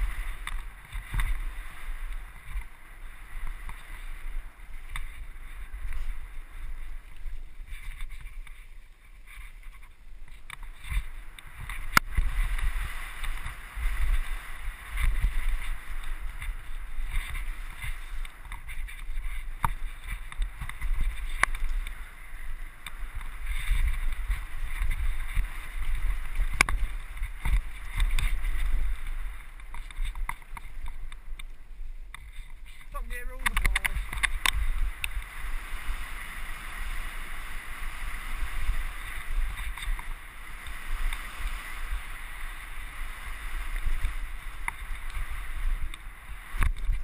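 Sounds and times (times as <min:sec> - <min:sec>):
bike rattling: 0:00.0 - 0:47.0
tyres on dirt and gravel: 0:00.0 - 0:47.0
wind rushing over microphone: 0:00.0 - 0:47.0.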